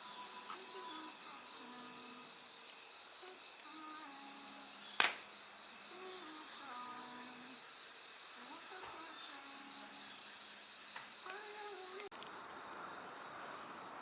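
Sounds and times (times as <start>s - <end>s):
crickets and insects chirping: 0.0s - 14.0s.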